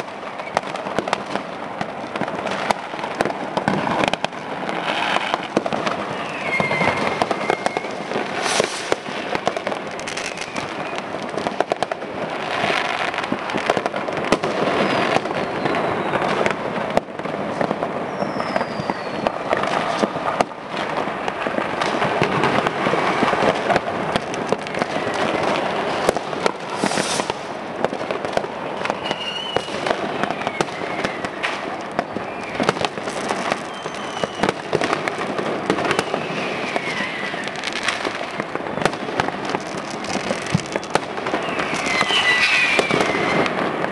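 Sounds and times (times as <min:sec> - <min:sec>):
falling firework whistles: 0:00.0 - 0:01.3, 0:02.5 - 0:13.9, 0:14.5 - 0:16.6, 0:17.5 - 0:20.4, 0:21.8 - 0:23.8, 0:24.8 - 0:43.9
fireworks crackling: 0:00.0 - 0:43.9.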